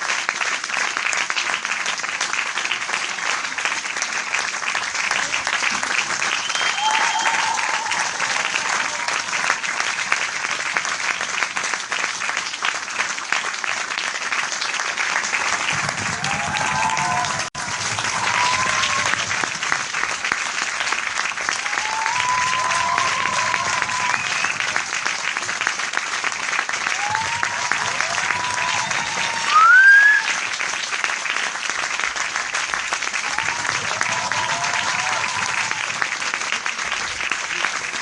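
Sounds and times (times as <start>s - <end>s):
crowd clapping: 0.0s - 38.0s.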